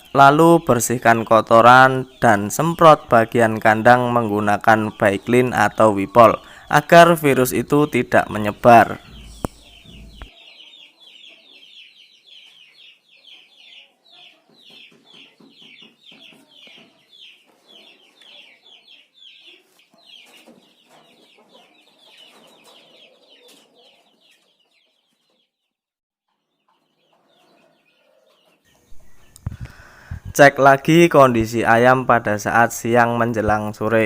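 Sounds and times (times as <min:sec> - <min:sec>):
chickens clucking and calling: 0:00.0 - 0:25.6, 0:26.3 - 0:34.0.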